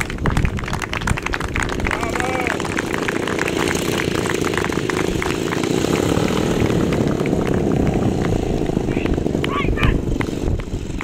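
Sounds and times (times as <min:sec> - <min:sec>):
model plane engine droning: 0:02.0 - 0:11.0.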